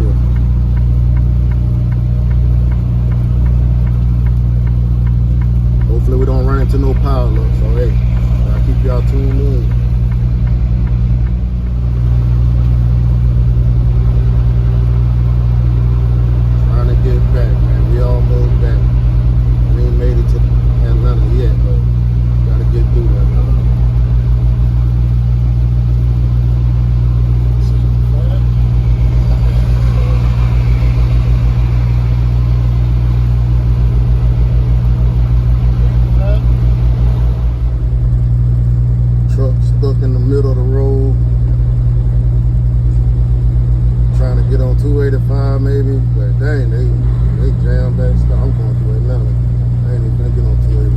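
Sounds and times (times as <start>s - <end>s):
truck engine low rumble: 0.0s - 50.9s.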